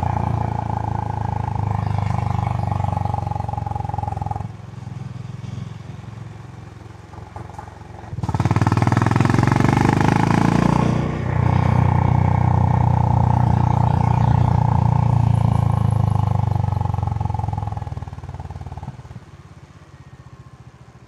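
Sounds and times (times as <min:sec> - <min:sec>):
motorcycle engine revving: 0:00.0 - 0:20.2.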